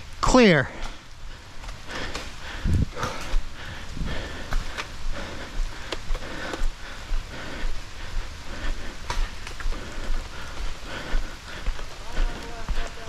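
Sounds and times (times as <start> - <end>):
footsteps on wet ground: 0.0 - 13.0
rain: 0.0 - 13.0.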